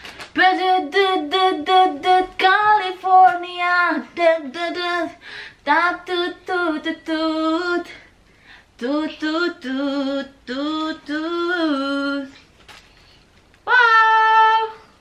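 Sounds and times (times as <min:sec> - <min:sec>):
woman singing unaccompanied: 0:00.1 - 0:08.1, 0:08.8 - 0:12.5, 0:13.6 - 0:14.9.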